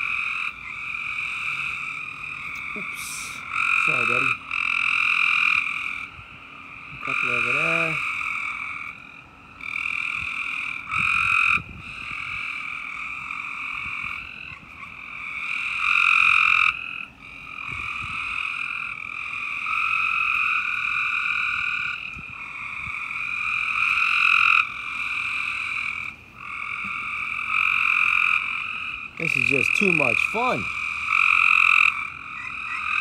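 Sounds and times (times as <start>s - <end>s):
frogs trilling: 0.0s - 33.0s.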